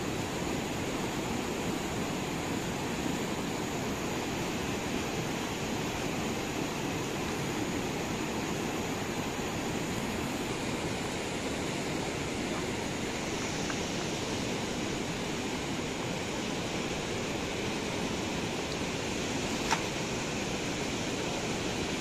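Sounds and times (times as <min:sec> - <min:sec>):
river rushing over rapids: 0:00.0 - 0:22.0.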